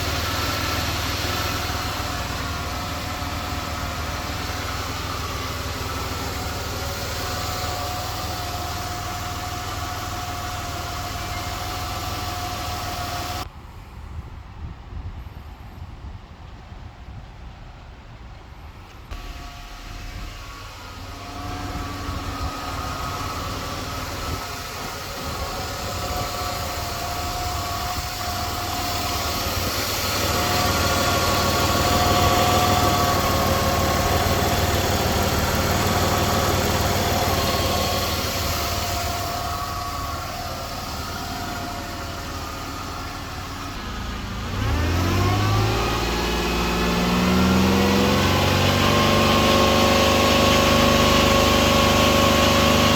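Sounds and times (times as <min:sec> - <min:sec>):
car engine running and revving: 0:00.0 - 0:13.5, 0:19.0 - 0:52.9.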